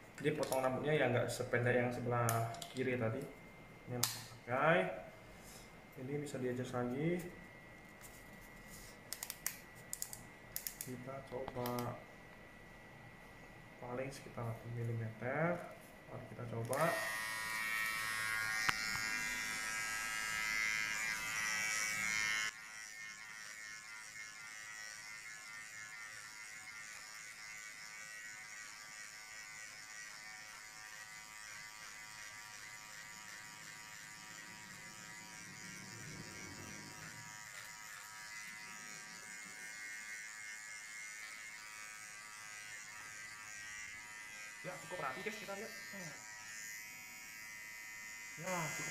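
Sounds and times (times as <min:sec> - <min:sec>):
hair clipper buzzing: 0:00.3 - 0:05.0, 0:09.1 - 0:12.0, 0:14.1 - 0:48.9.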